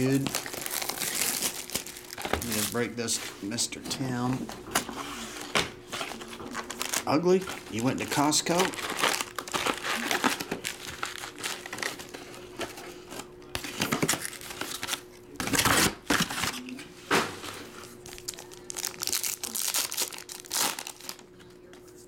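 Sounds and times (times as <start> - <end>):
foil wrappers crinkling and tearing: 0.0 - 16.7, 17.8 - 21.4.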